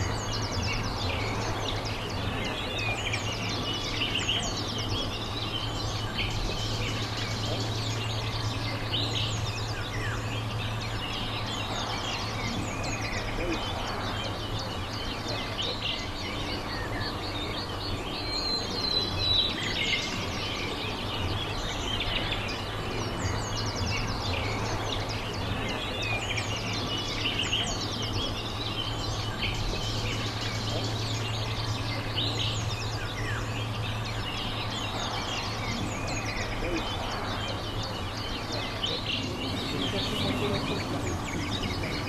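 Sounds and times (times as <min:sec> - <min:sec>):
small birds chirping: 0:00.0 - 0:42.0
steady low hum: 0:00.0 - 0:42.0.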